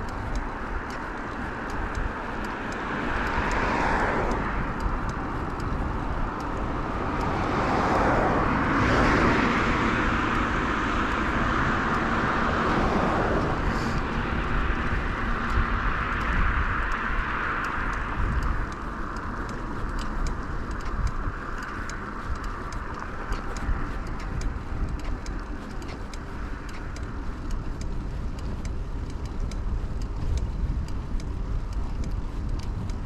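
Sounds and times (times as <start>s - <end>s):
road traffic passing: 0.0s - 33.0s
wind rumble: 0.0s - 33.0s.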